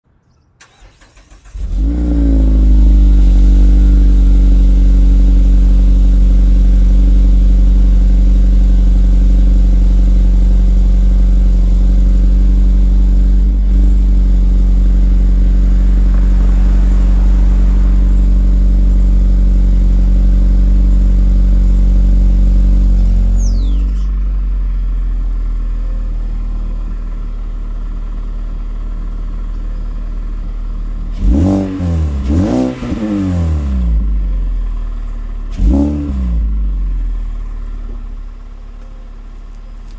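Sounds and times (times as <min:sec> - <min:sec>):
car engine idling: 0:00.6 - 0:39.9.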